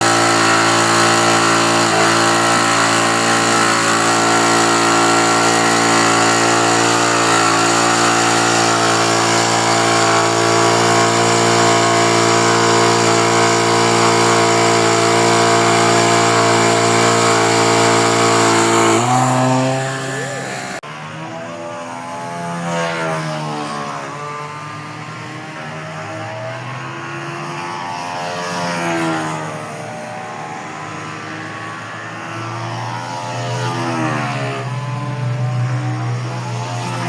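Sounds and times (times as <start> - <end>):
model aircraft engine buzzing: 0.0 - 37.0.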